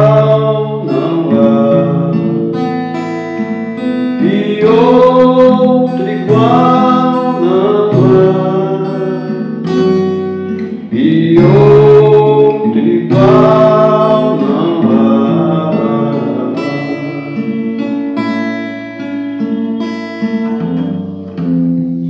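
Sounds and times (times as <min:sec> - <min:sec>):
man singing wordless notes: 0:00.0 - 0:03.0, 0:03.8 - 0:21.2
strummed acoustic guitar: 0:00.0 - 0:22.0.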